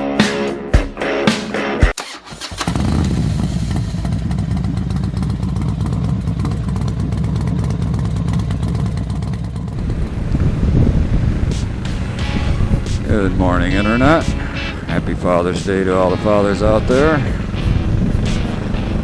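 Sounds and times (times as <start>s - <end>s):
motorcycle engine running: 2.5s - 19.0s.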